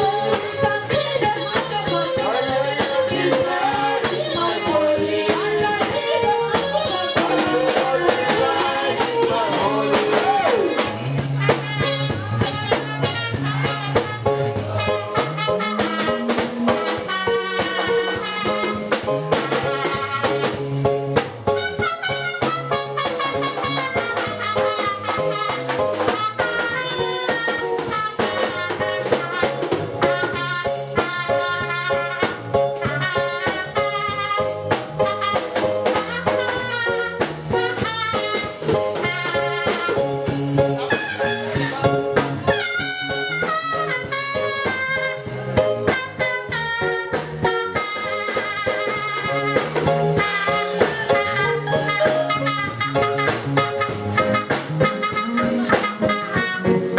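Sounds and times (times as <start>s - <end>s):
brass horns melody: 0.0s - 56.9s
drum-kit beat: 0.0s - 56.9s.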